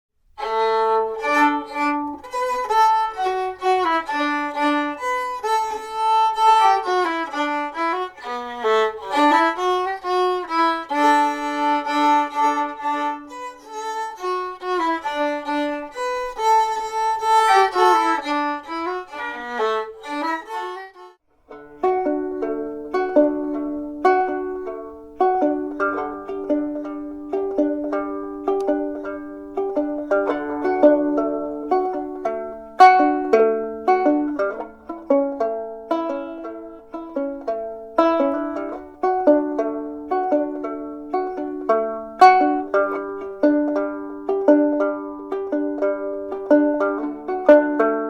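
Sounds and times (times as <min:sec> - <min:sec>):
violin lively melody: 0:00.3 - 0:48.0
plucked strings: 0:00.4 - 0:48.0.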